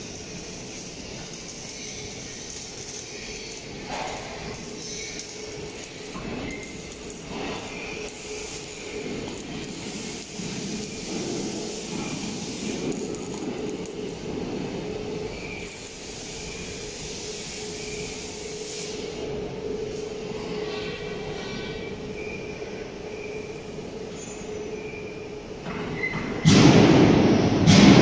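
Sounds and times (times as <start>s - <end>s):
arc welding hiss and crackle: 0.0s - 28.0s.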